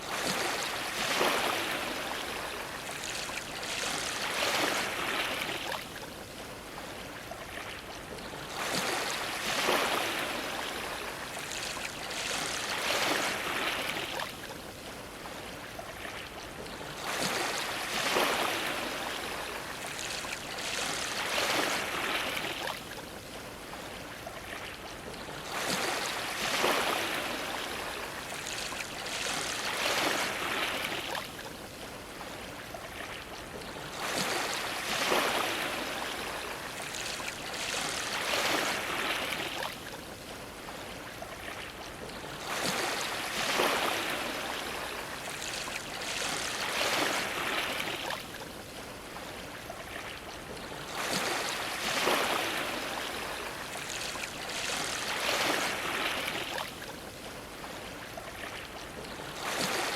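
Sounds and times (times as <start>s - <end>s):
waves washing against dock: 0.0s - 59.9s.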